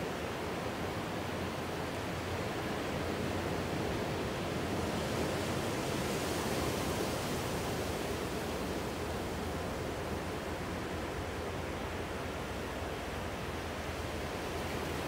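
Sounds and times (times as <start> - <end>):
ocean surf washing ashore: 0.2 - 15.0.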